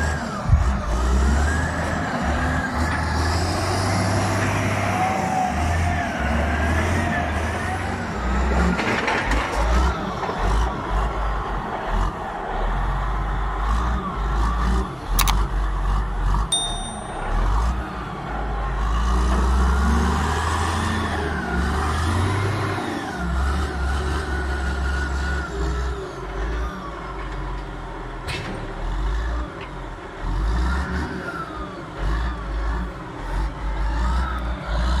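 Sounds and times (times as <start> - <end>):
wheel loader diesel engine revving: 0.0 - 16.5, 17.4 - 35.0.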